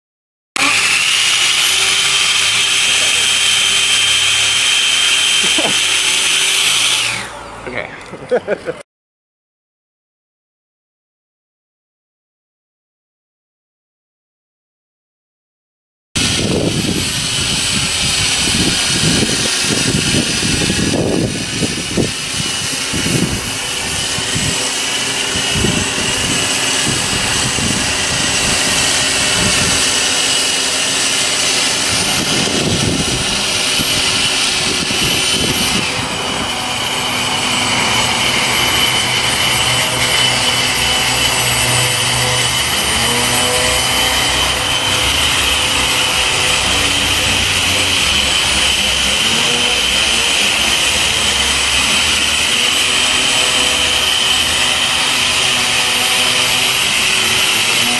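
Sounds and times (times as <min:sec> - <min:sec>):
suction fan whining: 0:00.6 - 0:08.2, 0:16.2 - 0:57.9.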